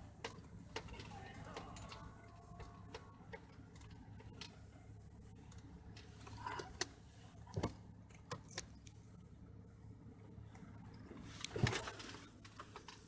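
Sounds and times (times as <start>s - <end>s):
faint car engine hum: 0.0s - 13.0s.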